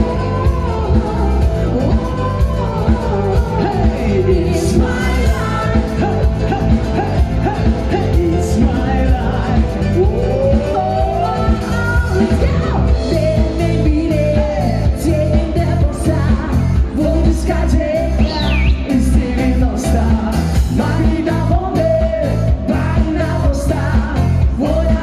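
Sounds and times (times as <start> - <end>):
person singing: 0.0 - 25.0
pulsing bass line: 0.0 - 25.0.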